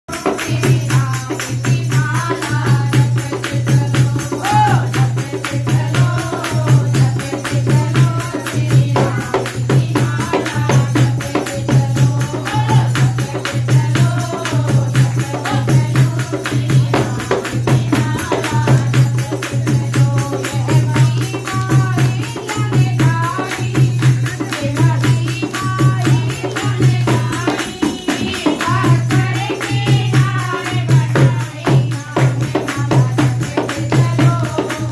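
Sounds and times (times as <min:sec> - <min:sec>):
hand drum beat: 0:00.1 - 0:34.9
tambourine jingling: 0:00.1 - 0:34.9
women singing together: 0:00.1 - 0:34.9.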